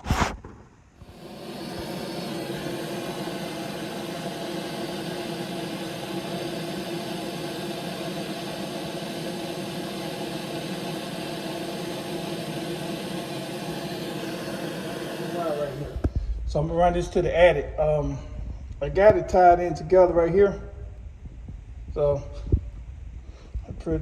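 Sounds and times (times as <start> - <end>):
machine motor hum and whir: 1.0 - 22.7.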